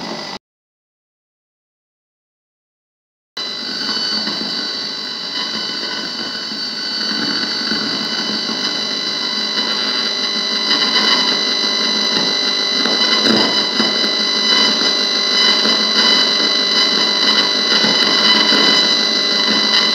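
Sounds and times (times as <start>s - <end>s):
high whistling tones: 3.4s - 19.9s
rasping electrical buzz: 3.4s - 19.9s.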